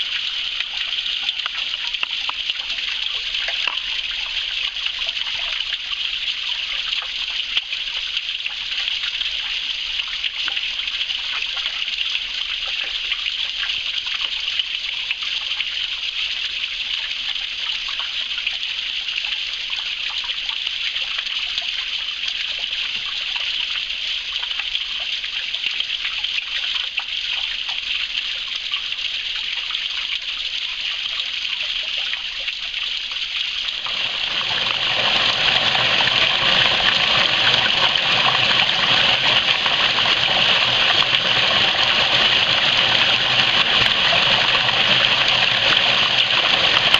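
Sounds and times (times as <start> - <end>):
stream water trickling: 0.0 - 46.9.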